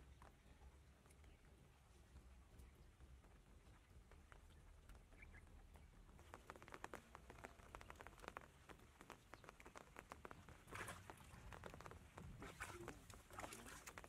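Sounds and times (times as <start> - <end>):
faint ticks and patters: 0.0 - 14.0.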